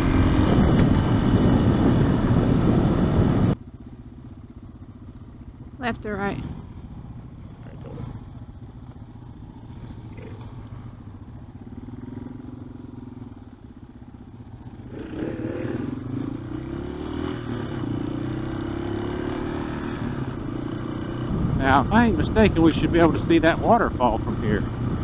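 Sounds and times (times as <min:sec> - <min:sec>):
motorcycle engine riding: 0:00.0 - 0:25.0.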